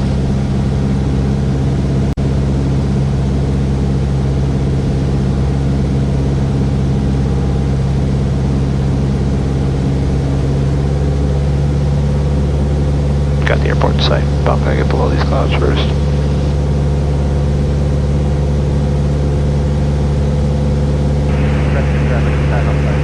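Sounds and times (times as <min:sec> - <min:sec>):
light aircraft engine drone: 0:00.0 - 0:23.0.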